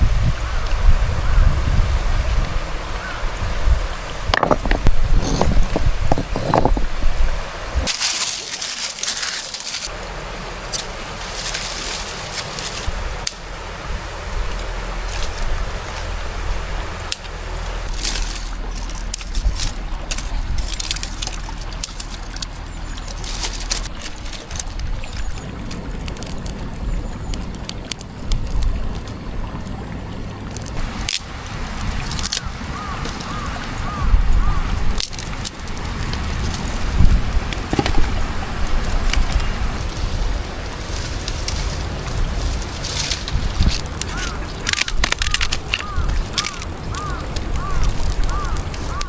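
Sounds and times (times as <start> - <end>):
stream water running: 0.0 - 49.0.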